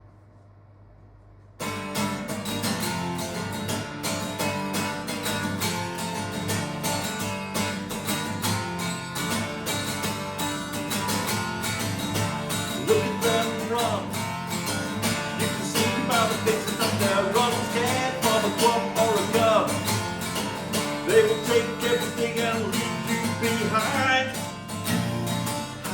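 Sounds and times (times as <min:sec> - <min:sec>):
acoustic guitar strumming: 0:01.6 - 0:25.9.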